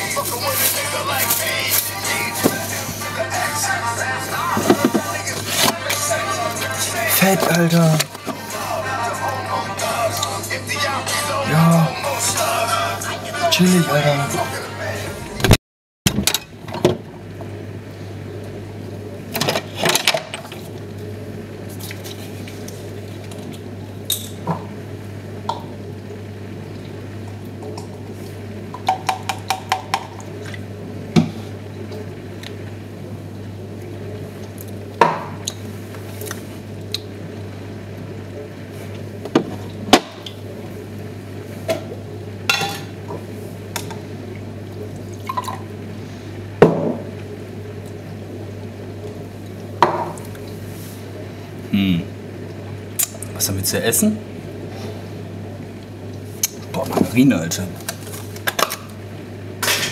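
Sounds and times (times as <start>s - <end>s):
fridge hum: 0.0s - 59.9s.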